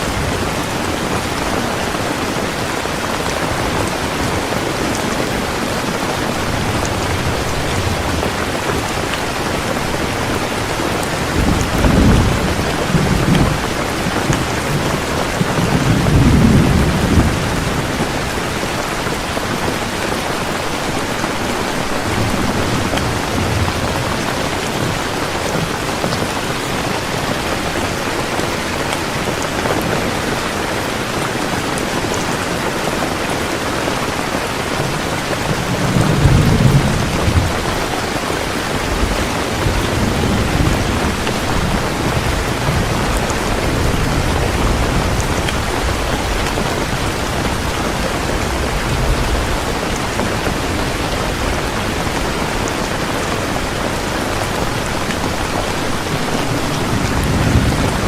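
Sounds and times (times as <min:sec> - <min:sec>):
thunder rumbling: 0:00.0 - 0:31.2, 0:34.1 - 0:58.0
heavy rain falling: 0:00.0 - 0:58.0.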